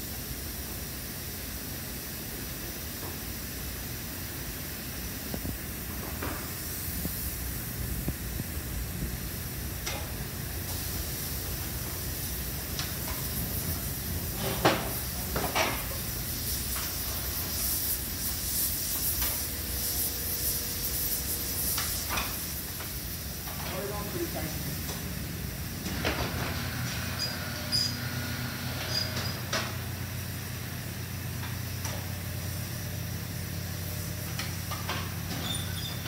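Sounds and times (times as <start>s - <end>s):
gas burners hissing and rumbling: 0.0s - 36.0s.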